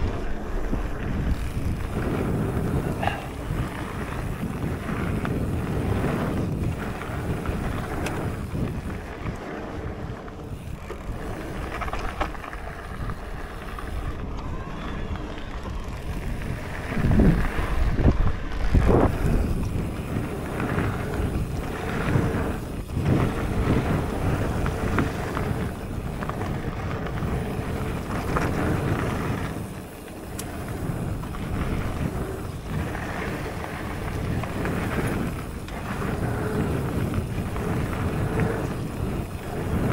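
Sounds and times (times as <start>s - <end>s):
bike tyres rolling on gravel: 0.0s - 39.9s
wind buffeting microphone: 0.0s - 39.9s.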